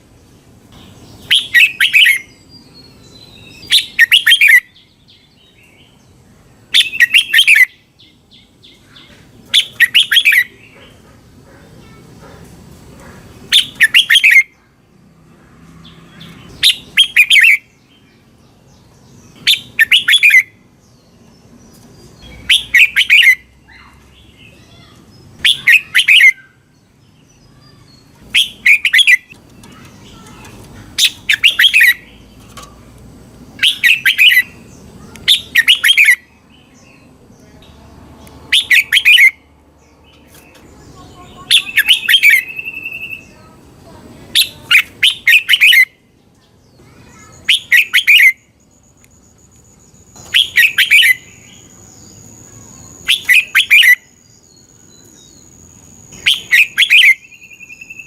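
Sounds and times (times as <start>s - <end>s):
bird singing warbled phrases: 0.0s - 58.0s.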